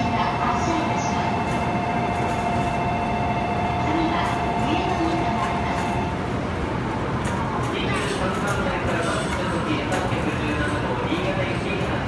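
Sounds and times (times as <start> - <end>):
station noise: 0.0 - 12.0
train equipment hum: 0.0 - 12.0.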